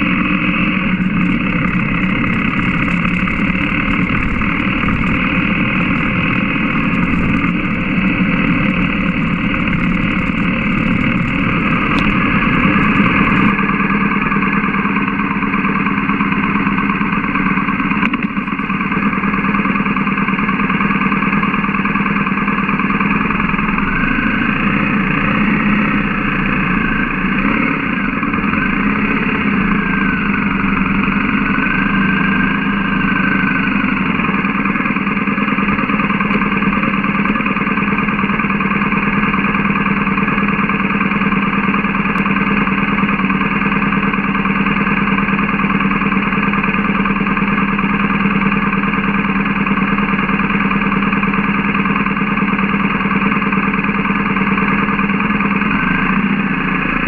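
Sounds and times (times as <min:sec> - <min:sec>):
motorcycle engine: 0:00.0 - 0:57.0.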